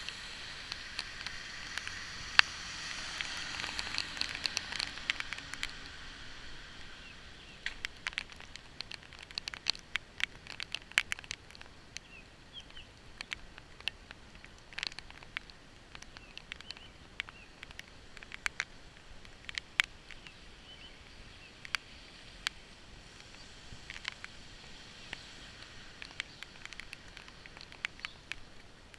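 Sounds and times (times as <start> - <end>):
rain hissing: 0.0 - 28.9
raindrops tapping on surface: 0.0 - 28.9.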